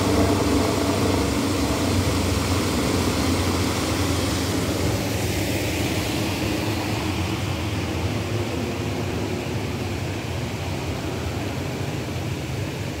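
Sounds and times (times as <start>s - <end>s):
water rushing over a weir: 0.0s - 13.0s.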